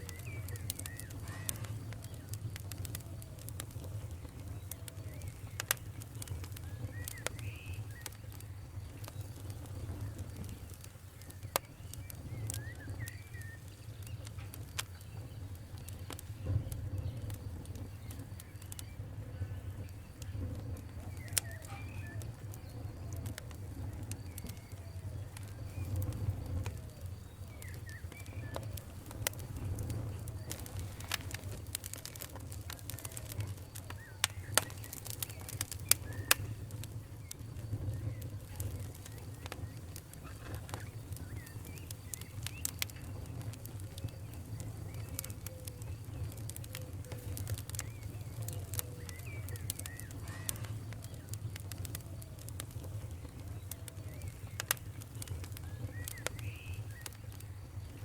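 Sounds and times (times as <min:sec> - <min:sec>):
faint squeaky whistles: 0:00.0 - 0:58.0
wood fire crackling and popping: 0:00.0 - 0:58.0.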